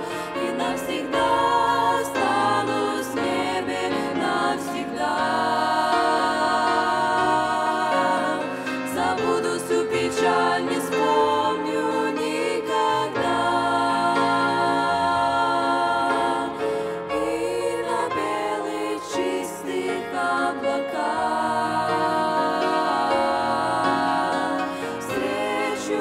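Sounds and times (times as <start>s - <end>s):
women singing a hymn in harmony: 0.0s - 26.0s.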